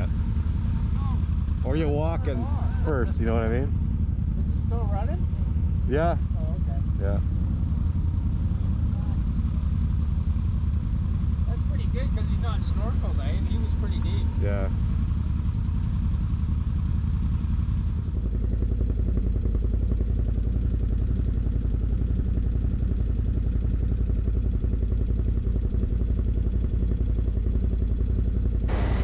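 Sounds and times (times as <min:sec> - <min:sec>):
atv engine running hard: 0:00.0 - 0:29.0.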